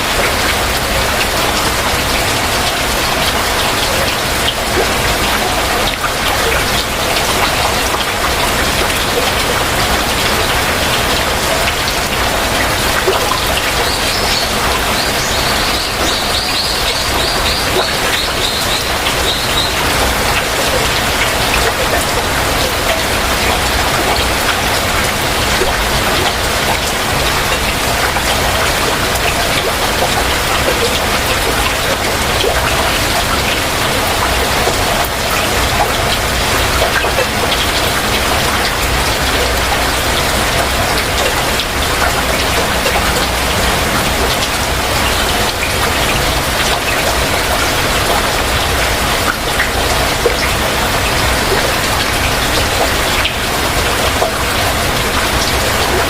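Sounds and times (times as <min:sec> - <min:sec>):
heavy rain drops on a surface: 0:00.0 - 0:56.0.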